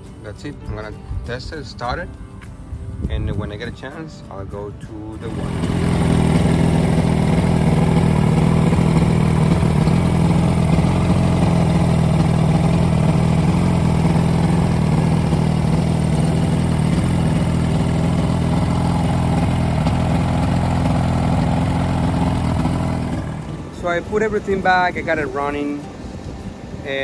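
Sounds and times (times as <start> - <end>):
outboard motor idling: 5.2 - 27.0.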